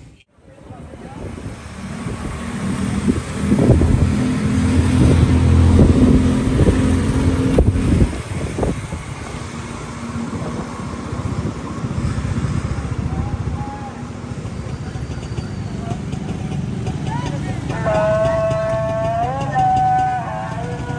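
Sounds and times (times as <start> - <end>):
street traffic: 0.0 - 20.9
vehicle engine humming: 0.0 - 20.9.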